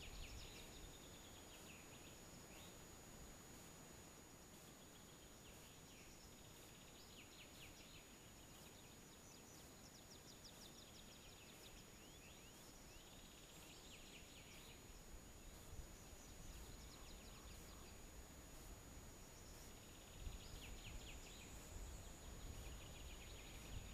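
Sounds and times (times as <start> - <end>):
faint songbirds singing: 0.0 - 23.9.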